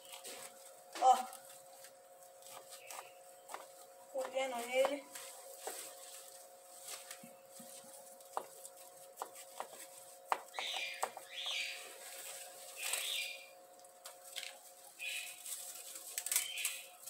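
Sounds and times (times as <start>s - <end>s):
lettuce leaves snapping: 0.0s - 17.0s.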